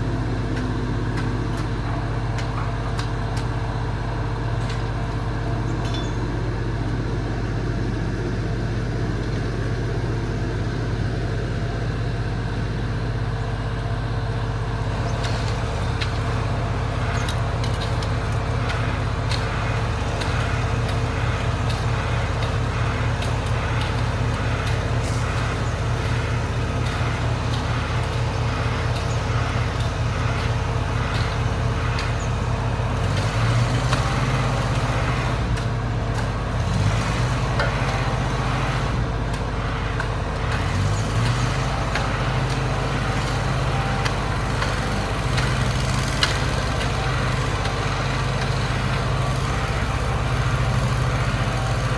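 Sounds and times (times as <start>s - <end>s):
vehicle engine humming: 0.0s - 51.9s.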